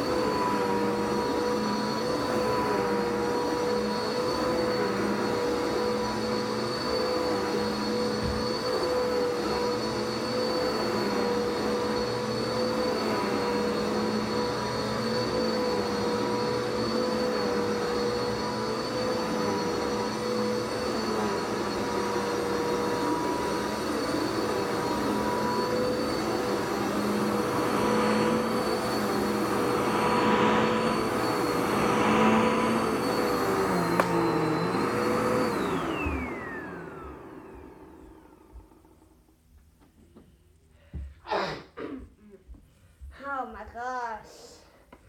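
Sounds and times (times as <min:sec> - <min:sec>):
vacuum cleaner running: 0:00.0 - 0:41.5.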